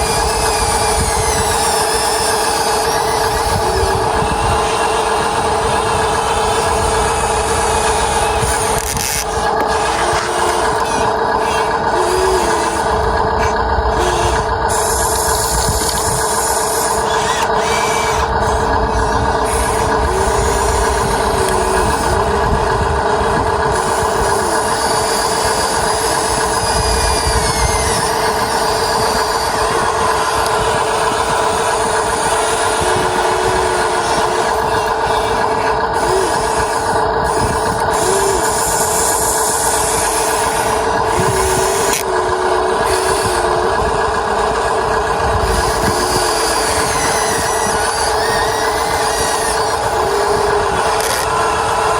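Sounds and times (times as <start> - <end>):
toy motors and gears whirring: 0.0 - 51.9.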